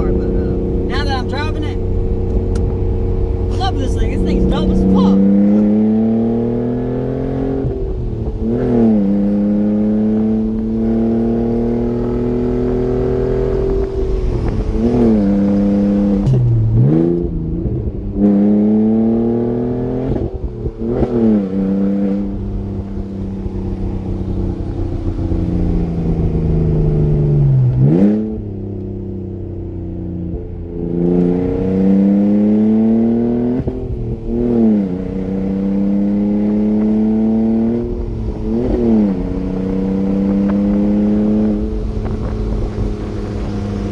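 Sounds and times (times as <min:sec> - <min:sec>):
car engine revving while driving: 0:00.0 - 0:43.9.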